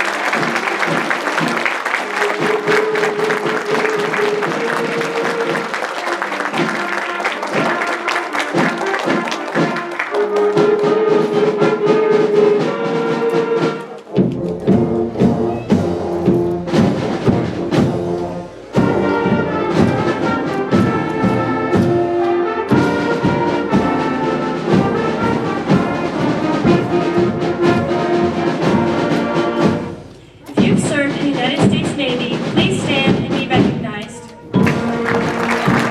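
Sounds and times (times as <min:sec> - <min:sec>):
brass band music with drums: 0:00.0 - 0:35.9.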